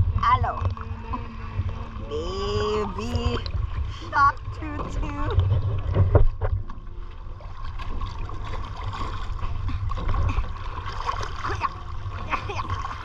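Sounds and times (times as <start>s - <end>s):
low rumble on microphone: 0.0s - 13.0s
sea water lapping and splashing: 0.0s - 13.0s.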